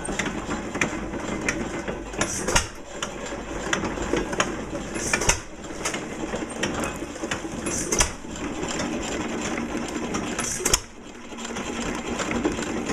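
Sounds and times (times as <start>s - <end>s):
corn sheller clattering: 0.0s - 12.9s.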